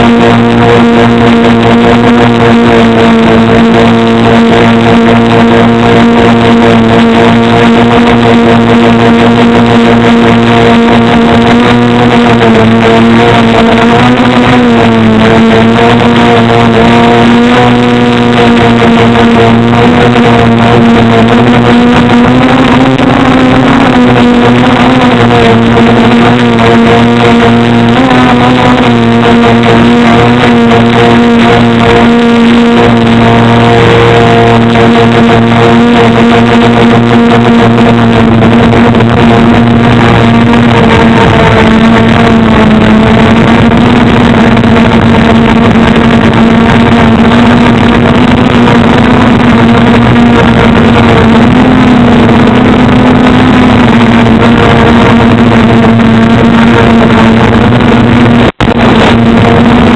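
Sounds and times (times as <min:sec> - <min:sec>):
drone propellers droning: 0:00.0 - 0:59.9.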